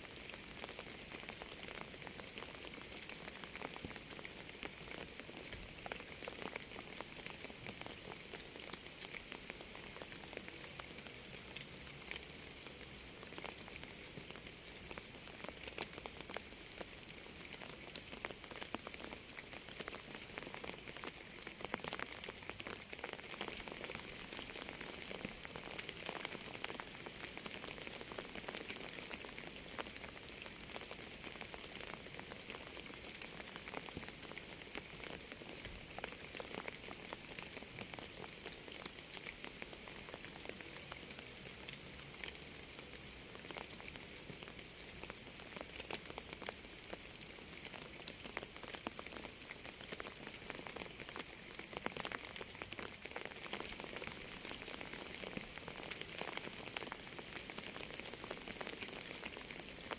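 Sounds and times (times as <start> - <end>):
steady rain hiss: 0.0 - 59.9
raindrops ticking: 0.2 - 59.9.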